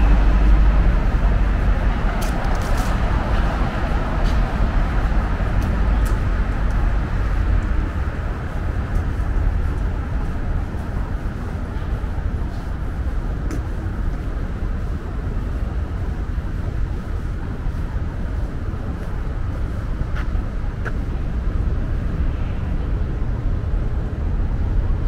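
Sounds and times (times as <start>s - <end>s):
deep traffic rumble: 0.0s - 25.0s.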